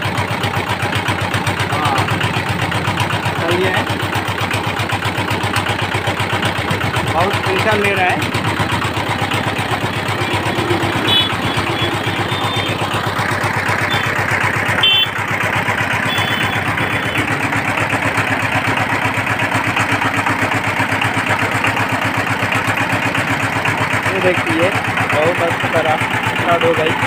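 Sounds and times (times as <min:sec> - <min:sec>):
diesel tiller engine running: 0:00.0 - 0:27.0.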